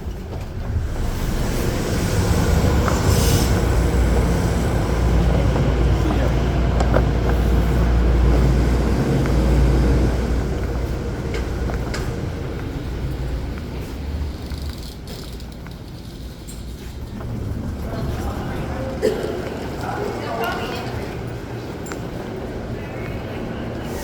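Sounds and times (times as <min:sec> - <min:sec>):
rail clicks: 0:00.0 - 0:24.0
train rumbling on rails: 0:00.0 - 0:24.0.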